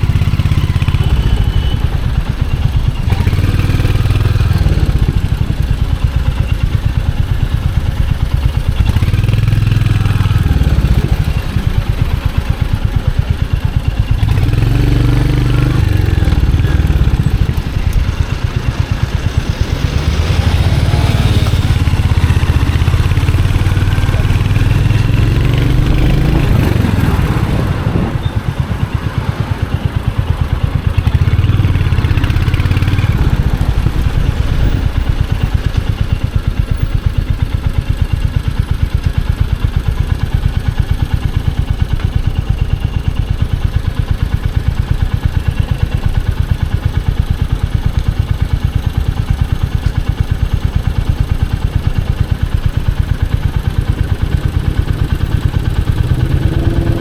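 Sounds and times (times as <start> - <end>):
motorcycle engine thumping: 0.0 - 57.0.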